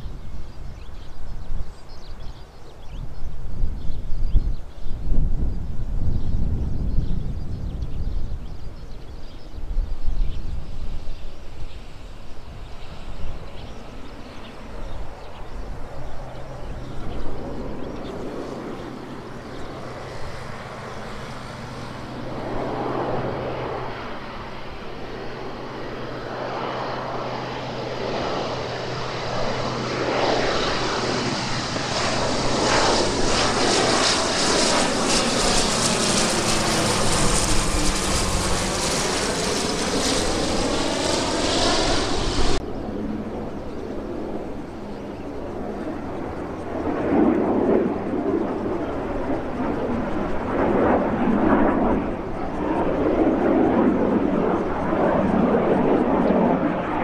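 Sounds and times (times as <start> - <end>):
propeller aircraft flying overhead: 0.0 - 57.0.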